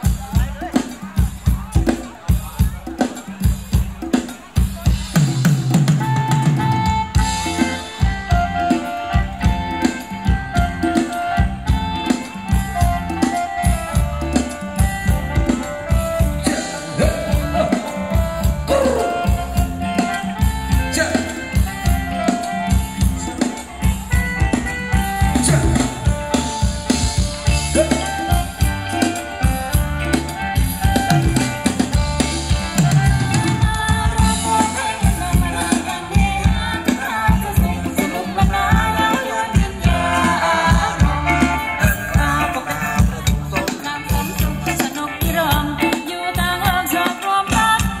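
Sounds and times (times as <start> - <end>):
drum kit beat: 0.0 - 48.0
live band dance music: 0.0 - 48.0.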